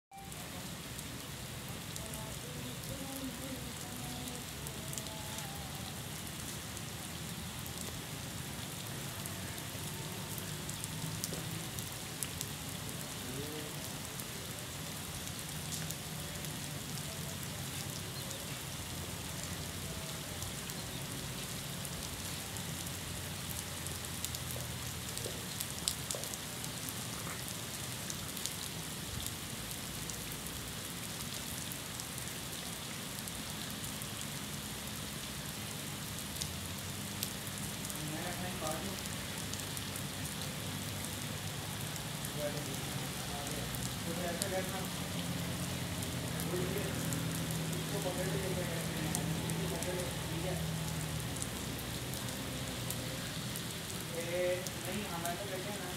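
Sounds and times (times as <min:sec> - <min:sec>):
rain on pavement and tiles: 0:00.1 - 0:55.9.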